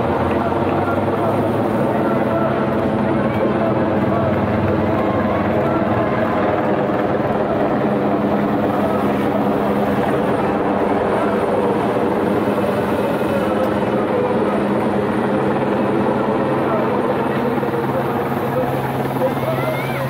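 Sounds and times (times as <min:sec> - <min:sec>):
helicopter hovering: 0:00.0 - 0:20.0.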